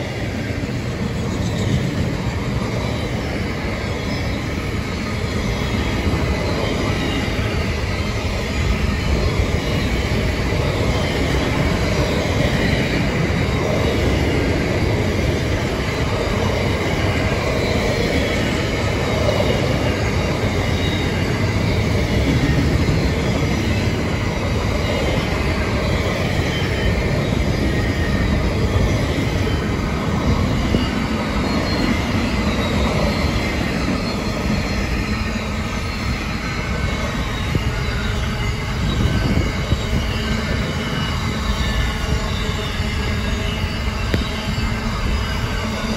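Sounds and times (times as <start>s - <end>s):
high wheel squeal: 0.0s - 45.9s
train wheels rumbling on rails: 0.0s - 45.9s.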